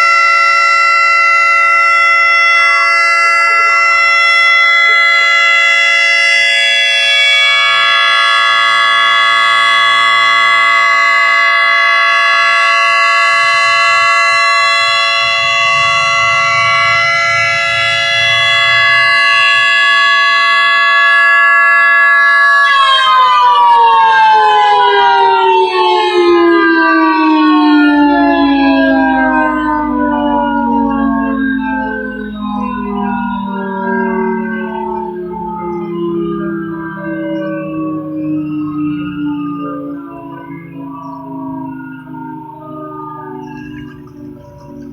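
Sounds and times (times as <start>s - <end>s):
mechanical siren two-note tone: 0.0s - 44.9s.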